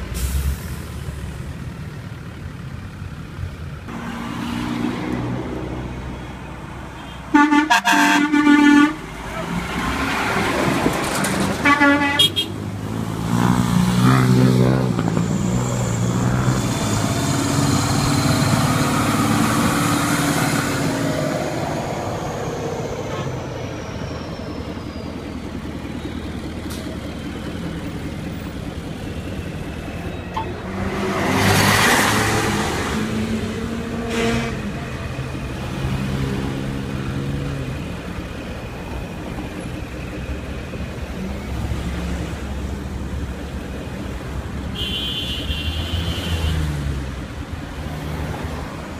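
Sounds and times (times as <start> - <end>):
engine whine: 0.0 - 45.1
vehicles driving past: 0.0 - 48.9.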